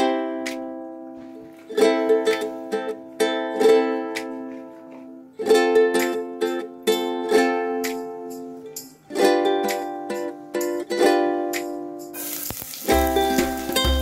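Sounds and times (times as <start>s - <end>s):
plucked string chords: 0.0s - 14.0s.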